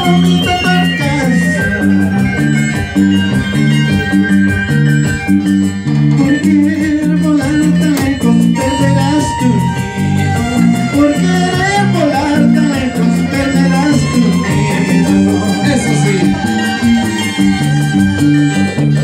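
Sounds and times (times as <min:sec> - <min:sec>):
violin melody: 0:00.0 - 0:06.2, 0:08.6 - 0:19.0
harp plucking bass pattern: 0:00.0 - 0:19.0
strummed strings: 0:00.0 - 0:19.0.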